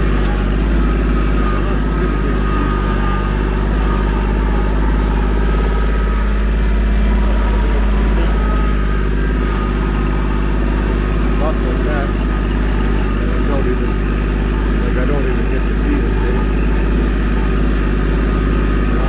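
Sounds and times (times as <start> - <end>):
faint high whine: 0.0 - 19.0
vehicle engine running: 0.0 - 19.0.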